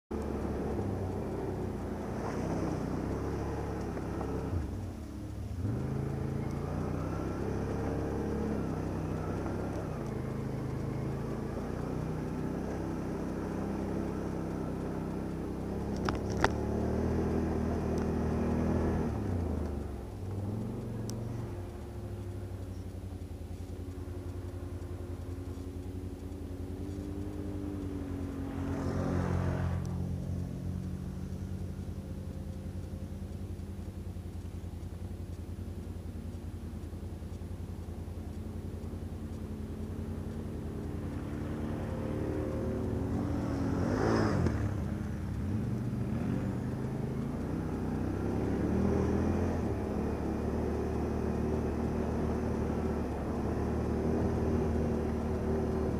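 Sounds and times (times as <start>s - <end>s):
quad bike engine revving: 0.1s - 55.9s.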